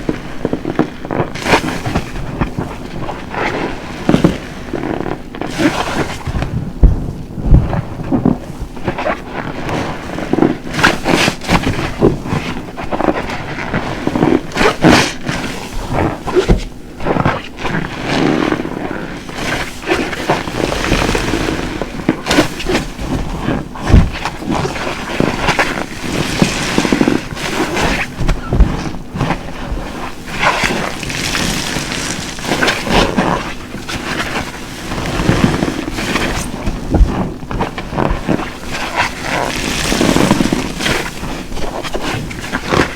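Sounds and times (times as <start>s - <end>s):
foam crackling and popping: 0.0s - 42.9s
soapy sponge squelching: 0.2s - 42.9s.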